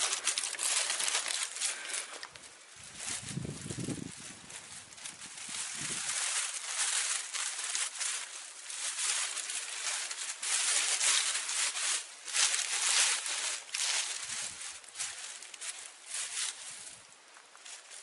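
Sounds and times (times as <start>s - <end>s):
dry leaves rustling and crackling: 0.0s - 18.0s.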